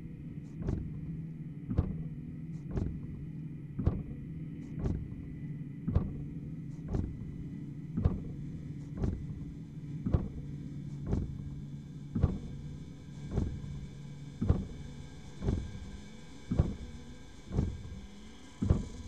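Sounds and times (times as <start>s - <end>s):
steady low hum: 0.0s - 19.0s
slow low thuds: 0.4s - 12.7s, 13.3s - 13.8s, 14.4s - 18.0s, 18.6s - 19.0s.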